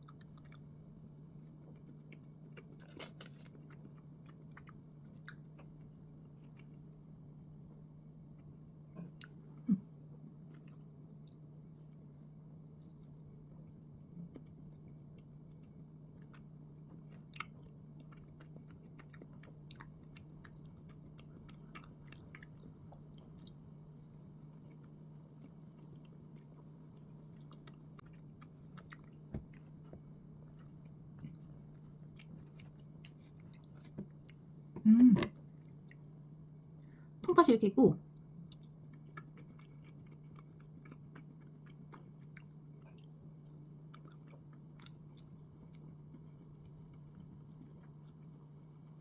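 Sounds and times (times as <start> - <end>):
chewing soft bread: 0.0 - 37.3, 38.0 - 49.0.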